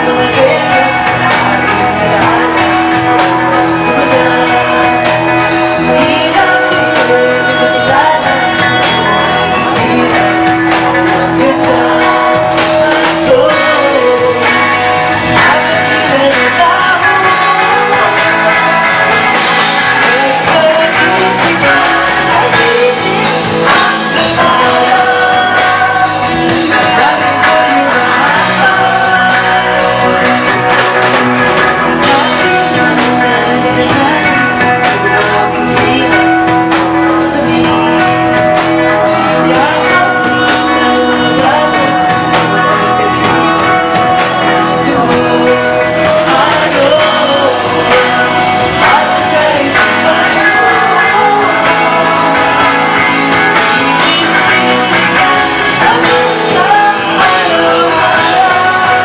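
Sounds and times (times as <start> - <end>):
woman singing into microphone: 0.0 - 19.2, 19.9 - 30.5, 31.9 - 59.0
live rock band playing: 0.0 - 59.0.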